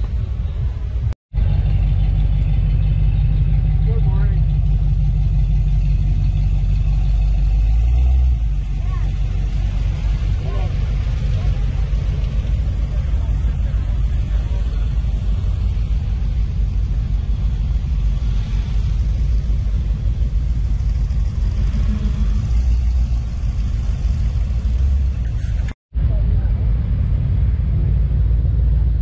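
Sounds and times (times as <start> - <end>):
car engines rumbling: 0.0 - 29.0.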